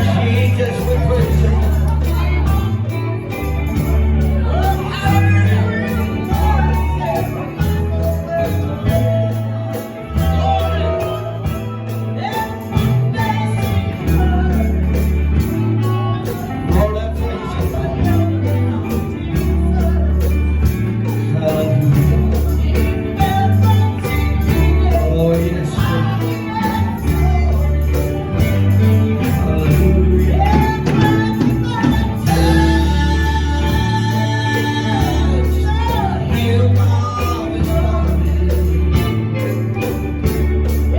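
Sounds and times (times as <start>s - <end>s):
gospel band playing: 0.0s - 40.9s
tambourine shaking: 0.0s - 40.9s
voices singing: 0.0s - 40.9s.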